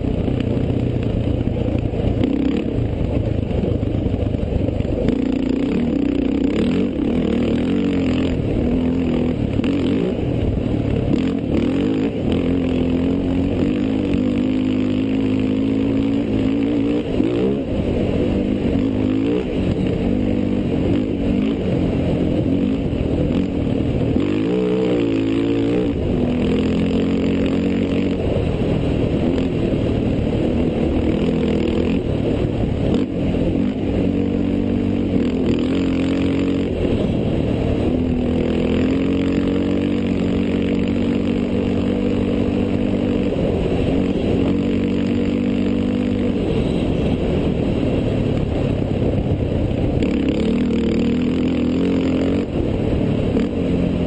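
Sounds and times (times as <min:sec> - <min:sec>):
race vehicle engine running hard: 0:00.0 - 0:54.0.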